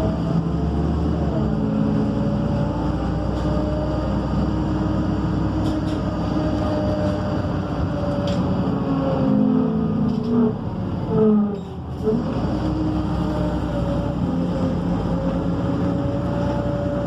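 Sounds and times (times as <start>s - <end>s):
bus engine hum and whine: 0.0s - 17.0s.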